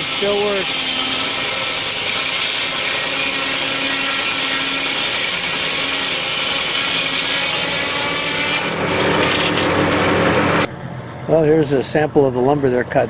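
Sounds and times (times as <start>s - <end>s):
circular saw blade spinning: 0.0s - 10.7s.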